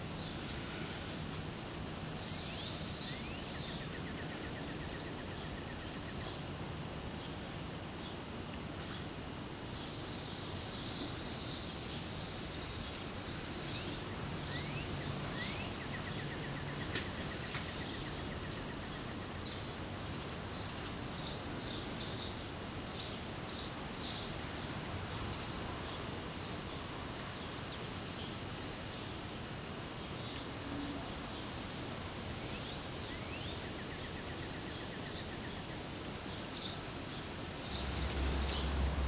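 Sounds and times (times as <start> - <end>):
steady outdoor hiss: 0.0 - 39.0
small birds chirping: 2.0 - 6.5, 7.1 - 39.0.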